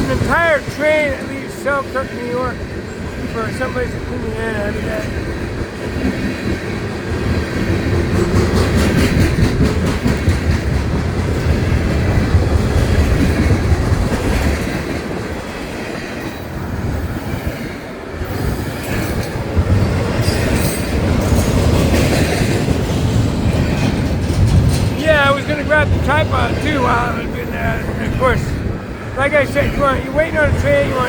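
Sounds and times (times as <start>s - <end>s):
freight train wheels clacking: 0.0s - 31.0s.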